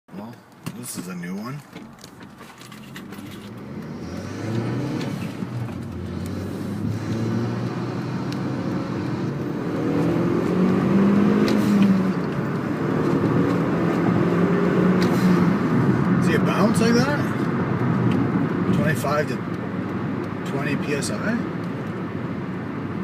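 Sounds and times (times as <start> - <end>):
turbocharged car engine accelerating: 3.0 - 23.0.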